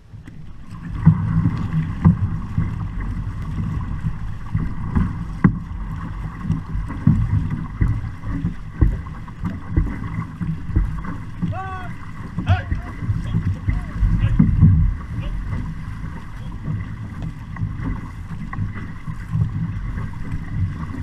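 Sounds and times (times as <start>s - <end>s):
water rushing along a canoe hull: 0.0s - 21.0s
wind on microphone: 0.0s - 21.0s.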